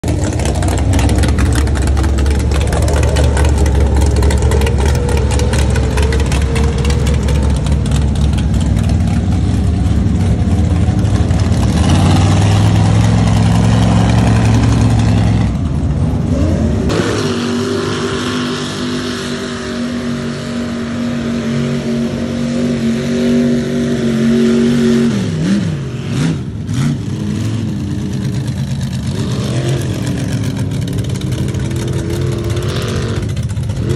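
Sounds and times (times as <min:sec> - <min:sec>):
truck engine revving hard: 0:00.0 - 0:33.9.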